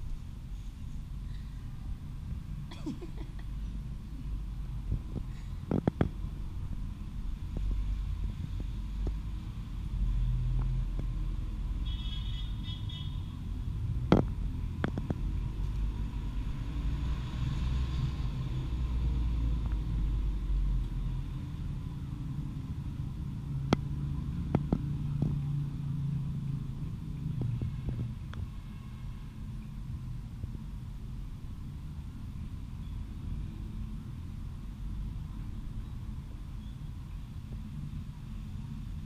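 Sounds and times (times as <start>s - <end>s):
road traffic rumble: 0.0s - 39.0s
vehicles passing: 0.0s - 39.0s.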